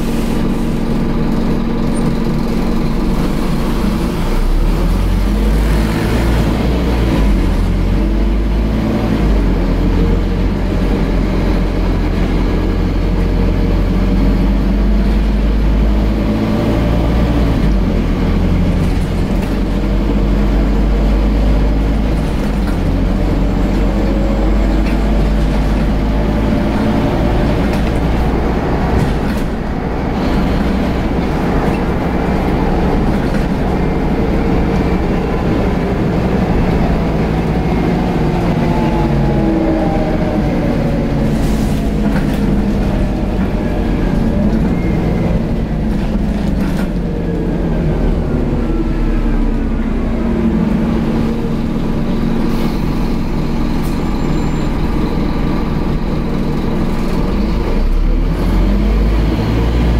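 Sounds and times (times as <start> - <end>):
bus engine running: 0.0 - 59.9.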